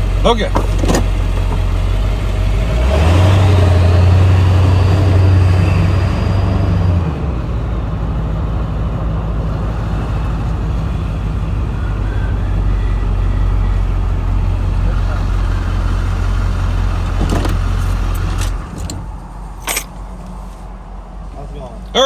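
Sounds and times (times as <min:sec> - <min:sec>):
motorhome engine running: 0:00.0 - 0:22.0.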